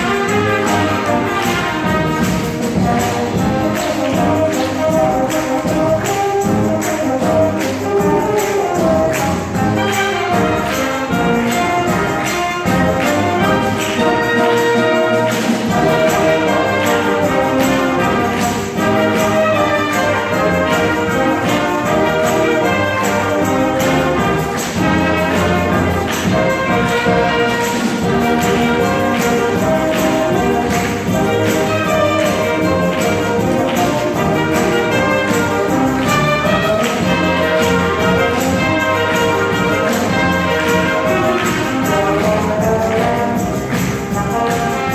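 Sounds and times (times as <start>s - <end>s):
brass instruments playing tune: 0.0s - 44.9s
percussion beat: 0.0s - 44.9s.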